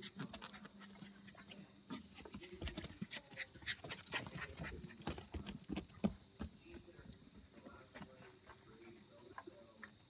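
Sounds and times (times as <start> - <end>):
hooves clicking on concrete: 0.0 - 10.0
small dog playing: 0.0 - 10.0.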